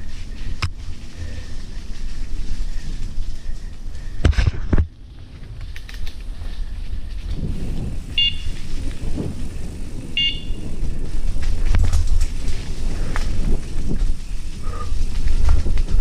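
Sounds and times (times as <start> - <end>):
mountain bike rattling on trail: 0.0 - 16.0
wind buffeting microphone: 0.0 - 16.0.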